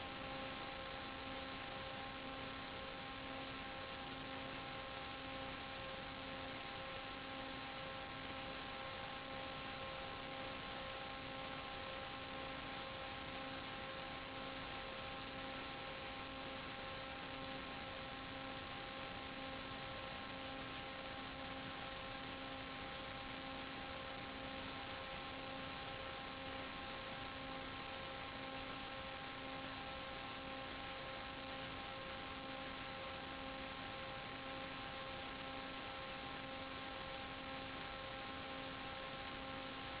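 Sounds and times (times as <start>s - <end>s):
electronic hiss: 0.0s - 40.0s.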